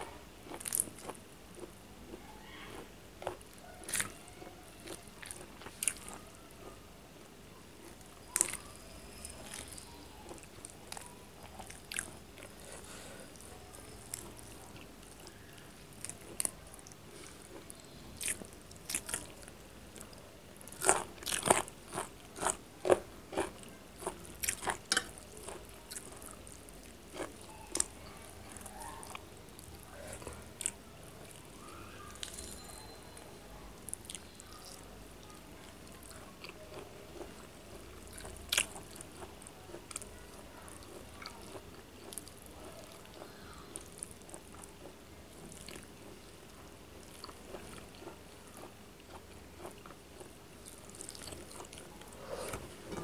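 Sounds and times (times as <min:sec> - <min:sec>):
chewing: 0:00.4 - 0:06.8, 0:07.8 - 0:33.0, 0:33.8 - 0:53.0.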